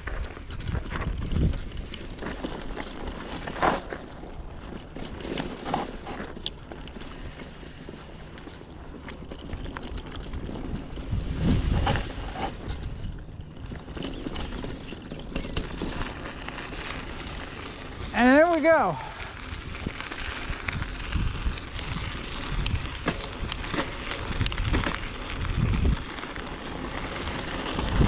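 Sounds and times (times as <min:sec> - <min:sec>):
bike clattering and rattling: 0:00.0 - 0:28.0
bike tyres rolling: 0:00.0 - 0:28.0.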